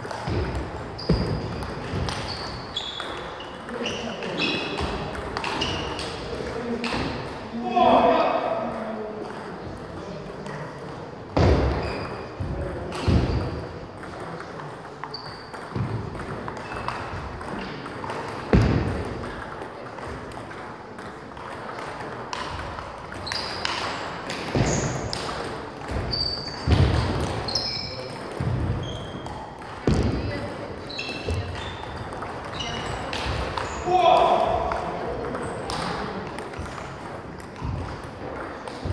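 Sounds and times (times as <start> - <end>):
table tennis balls clicking: 0.0 - 7.4, 12.7 - 38.9.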